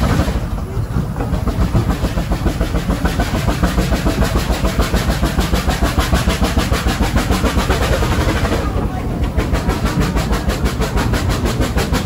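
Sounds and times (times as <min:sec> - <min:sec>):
steam locomotive exhaust chuffs: 0:00.0 - 0:12.0
wheels rumbling on track: 0:00.0 - 0:12.0.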